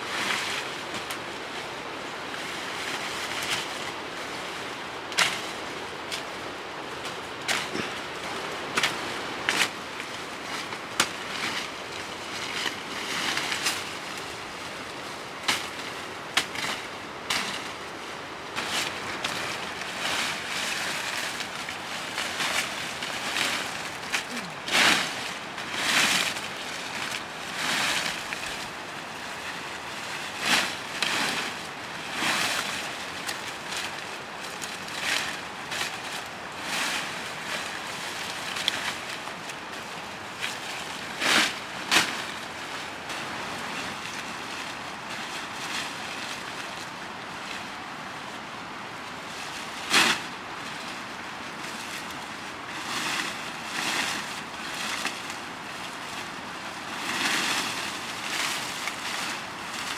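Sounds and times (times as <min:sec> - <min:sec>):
leafy branches rustling: 0:00.0 - 0:59.9
branches cracking as cut: 0:00.1 - 0:01.2, 0:05.1 - 0:59.9.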